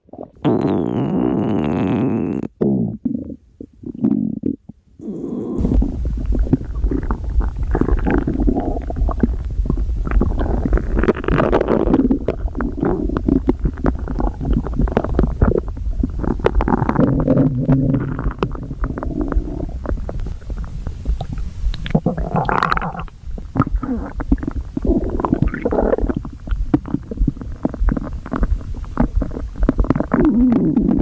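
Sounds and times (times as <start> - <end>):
stomach growling and gurgling: 0.0 - 31.0.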